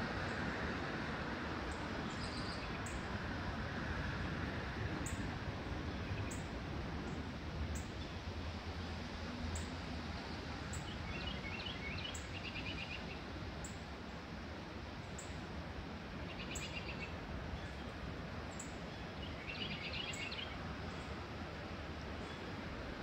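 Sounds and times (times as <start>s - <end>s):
outdoor background rush: 0.0s - 23.0s.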